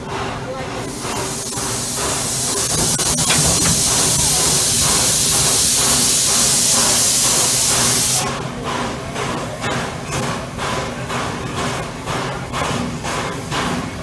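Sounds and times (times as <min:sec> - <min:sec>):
steam locomotive hissing: 0:00.0 - 0:14.0
faint regular chuff: 0:00.1 - 0:14.0.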